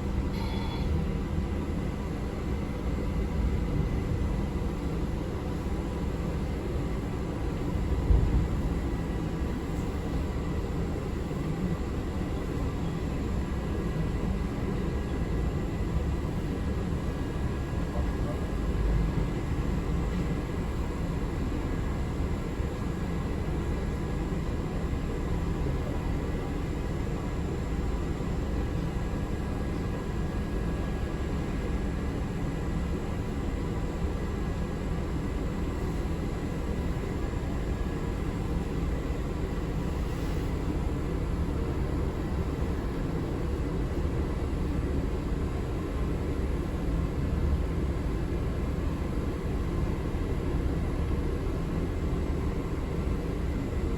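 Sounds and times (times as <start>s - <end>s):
transit vehicle rumble from inside: 0.0s - 53.9s.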